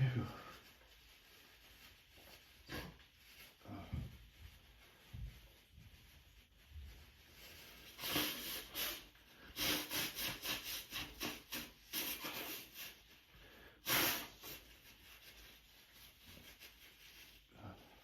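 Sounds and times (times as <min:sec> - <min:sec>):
tissue wiping runny nose: 0:00.0 - 0:18.0.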